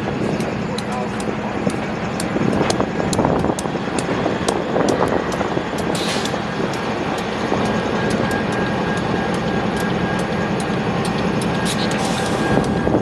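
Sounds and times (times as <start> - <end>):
train rumbling: 0.0 - 13.0
wheels clicking over rail joints: 0.0 - 13.0.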